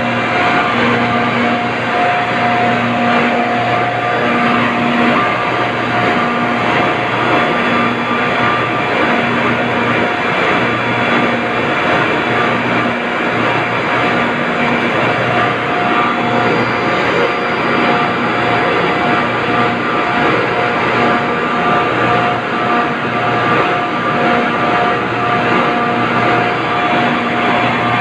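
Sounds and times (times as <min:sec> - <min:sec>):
compressor machine drone: 0:00.0 - 0:28.0.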